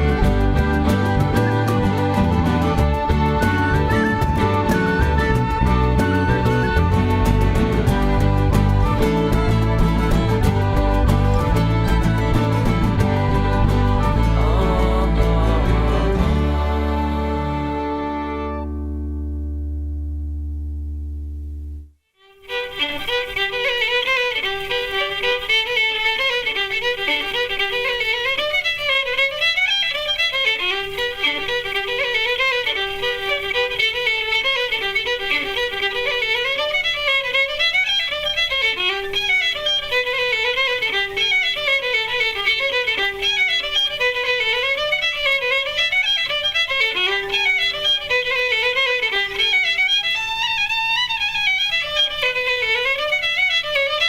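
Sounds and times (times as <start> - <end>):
fiddle playing lively folk tune: 0.0 - 19.8, 22.2 - 54.0.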